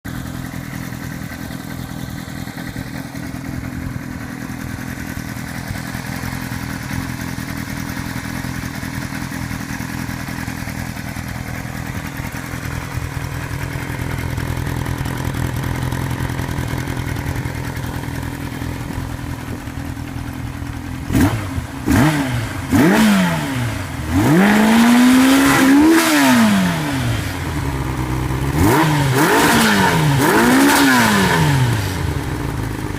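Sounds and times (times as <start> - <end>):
motorcycle engine idling and revving: 0.0 - 32.9.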